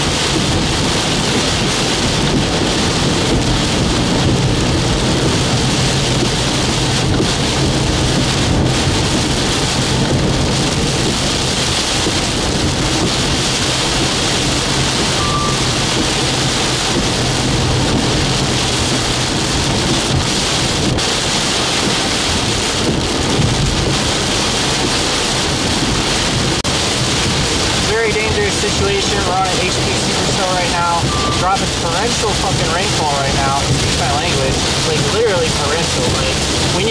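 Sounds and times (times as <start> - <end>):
heavy rain on a vehicle: 0.0 - 36.9
low vehicle drone: 0.0 - 36.9.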